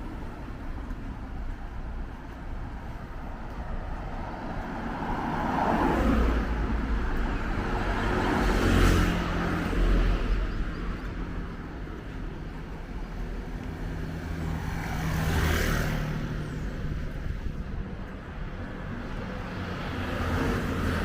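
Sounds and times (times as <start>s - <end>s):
vehicles passing close by: 0.0s - 21.0s.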